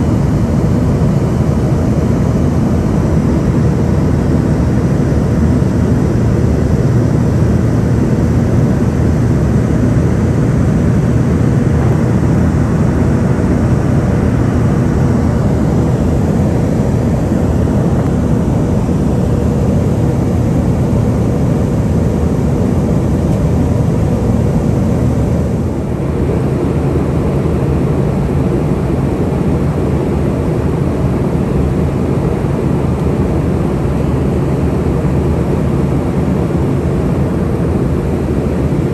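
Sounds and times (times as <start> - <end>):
airplane cabin roar: 0.0 - 38.9.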